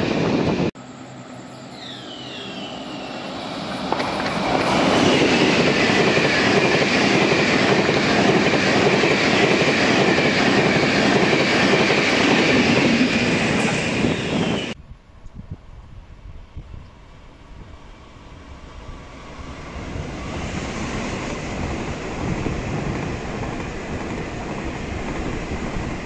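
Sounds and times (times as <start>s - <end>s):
train wheels rushing on rail: 0.0s - 14.8s, 17.1s - 26.0s.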